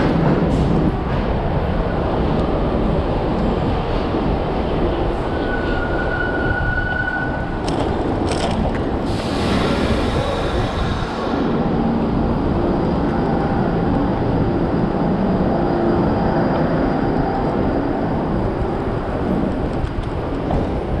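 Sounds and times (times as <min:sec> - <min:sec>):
passing traffic: 0:00.0 - 0:21.0
road noise: 0:00.0 - 0:21.0
wind rumble on microphone: 0:00.0 - 0:21.0.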